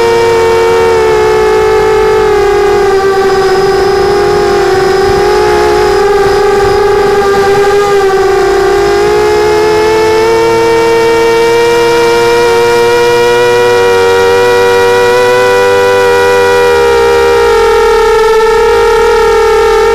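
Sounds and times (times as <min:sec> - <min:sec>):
quadcopter motors whining: 0:00.0 - 0:19.9.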